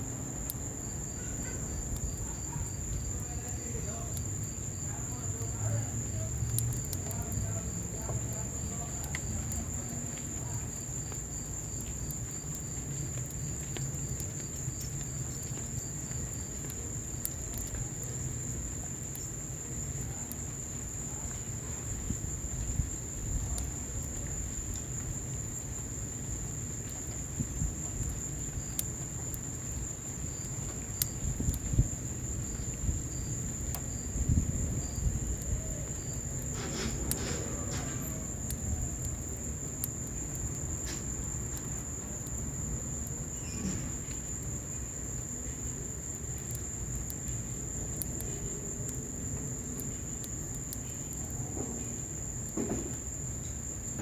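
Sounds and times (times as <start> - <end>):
rain: 0.0 - 54.0
wood fire crackling and popping: 0.0 - 54.0.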